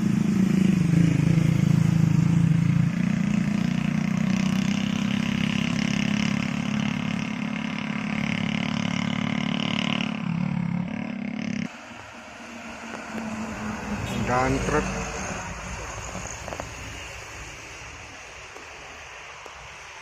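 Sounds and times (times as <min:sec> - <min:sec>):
heavy diesel truck engine labouring: 0:00.0 - 0:18.3.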